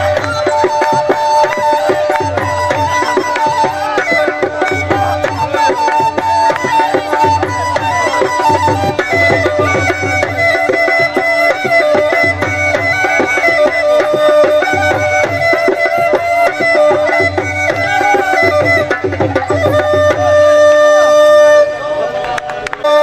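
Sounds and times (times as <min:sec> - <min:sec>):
drum beating: 0:00.0 - 0:21.7
double flute folk melody: 0:00.0 - 0:23.0.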